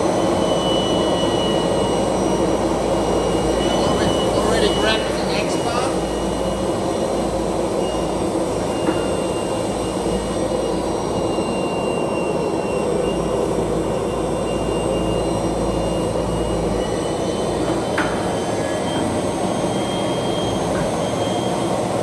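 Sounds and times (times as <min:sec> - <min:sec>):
faint high whines: 0:00.0 - 0:22.0.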